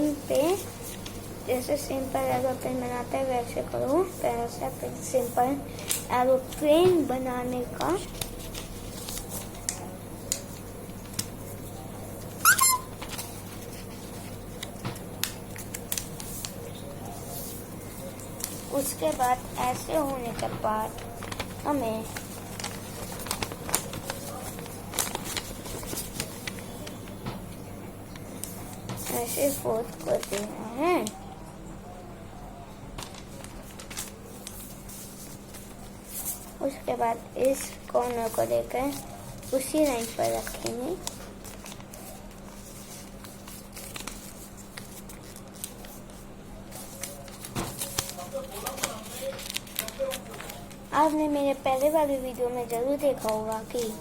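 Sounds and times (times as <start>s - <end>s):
paper crackling and rustling: 0.0s - 31.3s, 32.9s - 54.0s
low electrical hum: 0.0s - 54.0s.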